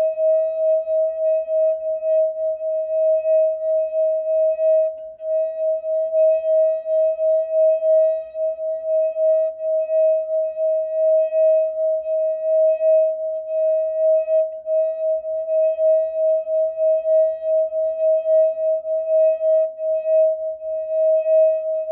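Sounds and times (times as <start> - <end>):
wine glass rim ringing tone: 0.0 - 21.9.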